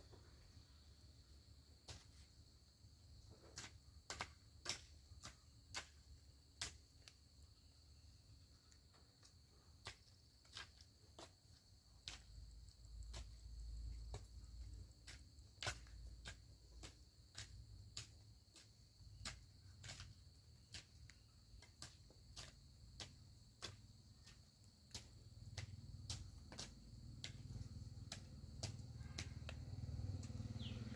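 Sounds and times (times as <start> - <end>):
insects trilling: 0.0 - 30.9
hand hoe striking soil: 1.8 - 2.4, 3.4 - 7.4, 8.7 - 30.9.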